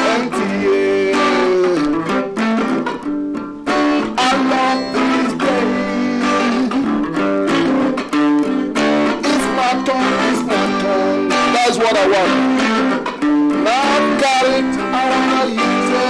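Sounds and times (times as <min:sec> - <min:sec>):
guitar plucked notes and chords: 0:00.0 - 0:16.0.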